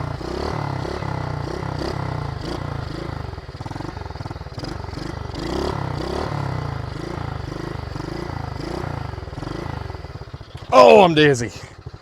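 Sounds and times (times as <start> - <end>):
pit bike engine revving: 0.0 - 11.9.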